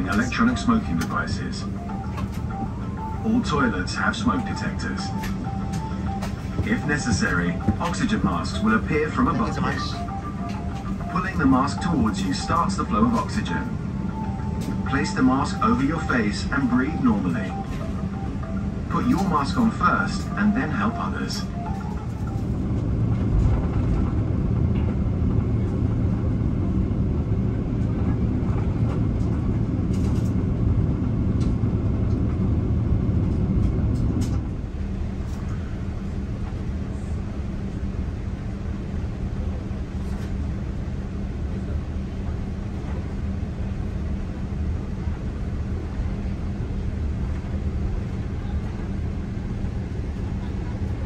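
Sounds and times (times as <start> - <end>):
airplane cabin rumble: 0.0 - 51.0
jet engine hum: 0.0 - 51.0.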